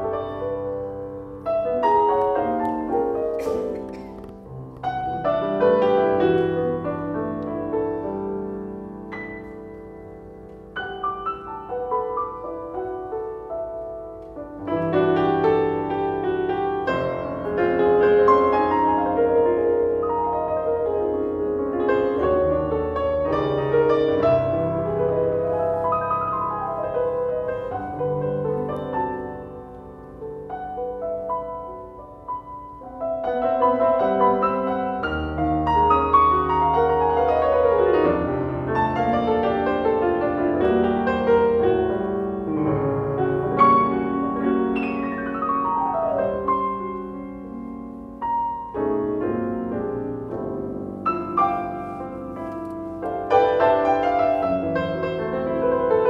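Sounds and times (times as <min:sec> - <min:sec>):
solo jazz piano: 0:00.0 - 0:56.0.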